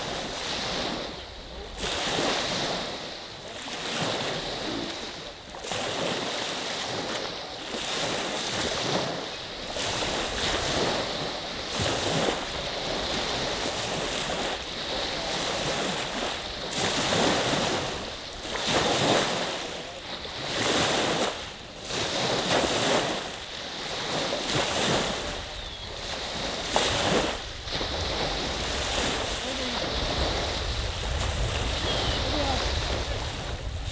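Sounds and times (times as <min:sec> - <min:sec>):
small waves washing onto beach: 0:00.0 - 0:33.9
wind on microphone: 0:00.0 - 0:33.9.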